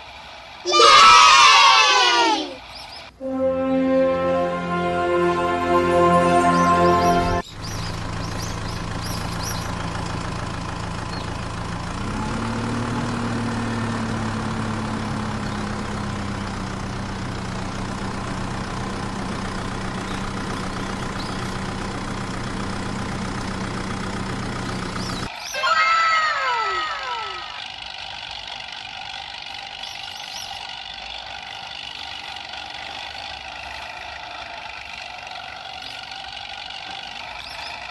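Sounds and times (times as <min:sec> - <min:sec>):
vehicle engine idling: 0:02.6 - 0:25.4, 0:26.2 - 0:37.9.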